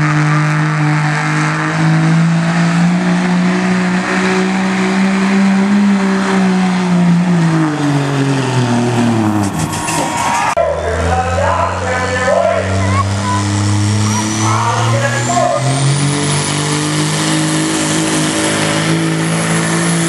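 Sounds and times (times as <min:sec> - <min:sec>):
diesel truck engine at full throttle: 0:00.0 - 0:20.0.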